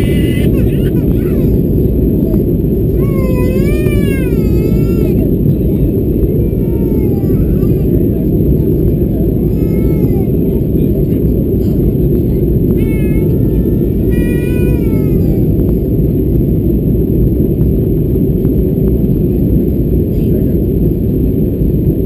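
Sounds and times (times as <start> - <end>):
aircraft cabin airflow and engines: 0.0 - 22.0.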